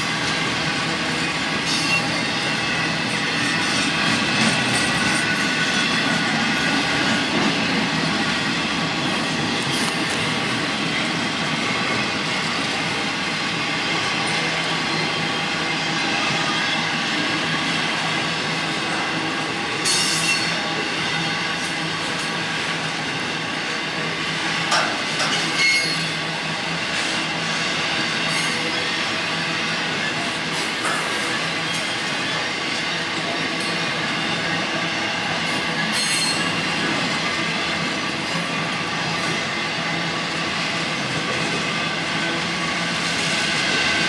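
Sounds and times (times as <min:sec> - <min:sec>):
train cars rumbling on rails: 0:00.0 - 0:44.0.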